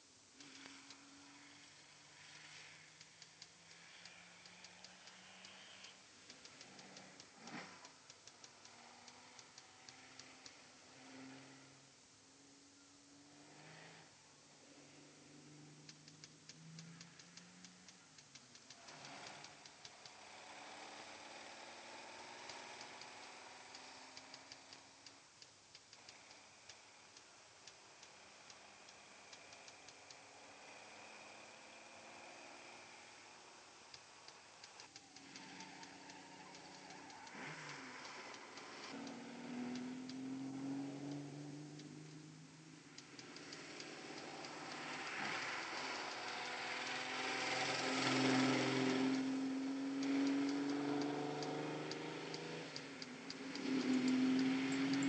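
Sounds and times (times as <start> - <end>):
car engine approaching: 0.0 - 55.0
faint sharp clicks: 0.0 - 55.0
quiet hiss: 0.0 - 55.0.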